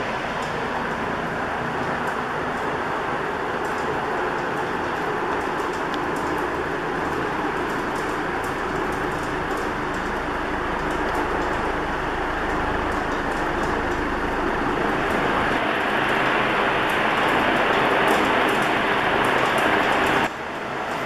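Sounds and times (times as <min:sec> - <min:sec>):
ceiling fan running: 0:00.0 - 0:21.0.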